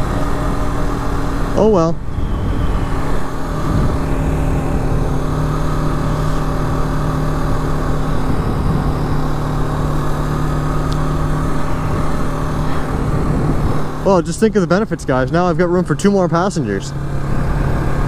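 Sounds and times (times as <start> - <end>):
wind rushing over microphone: 0.0 - 15.6
motorcycle engine cruising: 0.0 - 18.0.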